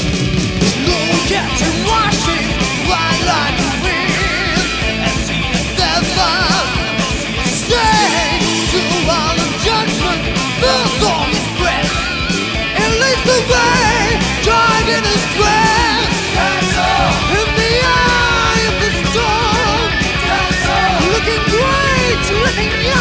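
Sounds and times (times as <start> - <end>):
drums: 0.0 - 23.0
hard rock band playing: 0.0 - 23.0.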